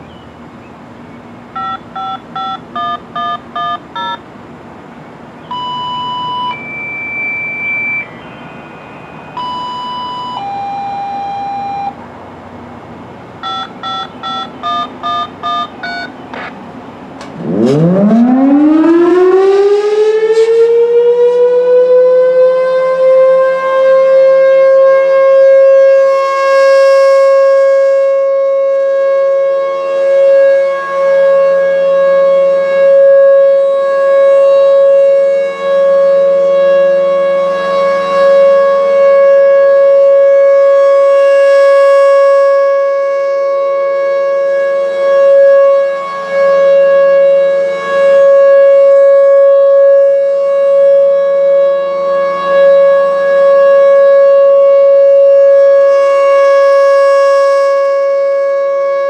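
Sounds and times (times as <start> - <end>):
rotating siren loud steady tone: 1.6 - 4.2, 5.4 - 12.0, 13.4 - 16.5, 17.3 - 59.0.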